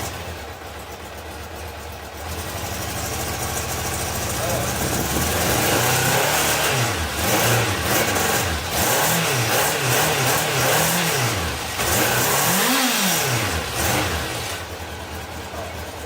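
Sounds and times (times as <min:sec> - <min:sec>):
engine popping: 0:00.0 - 0:16.0
motorcycle engine revving: 0:00.0 - 0:16.0.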